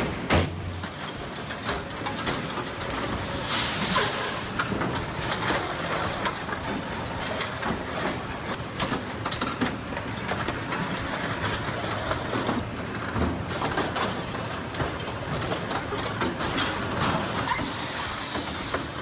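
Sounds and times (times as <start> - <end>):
heavy vehicle rumble: 0.0 - 19.0
knocks and clatter: 0.0 - 19.0.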